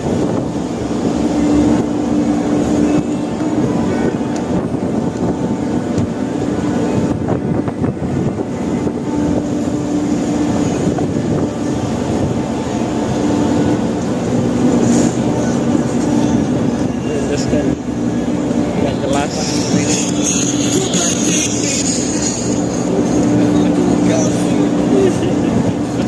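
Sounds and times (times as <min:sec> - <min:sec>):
low hum: 0:00.0 - 0:26.0
ship engine droning: 0:00.0 - 0:26.0.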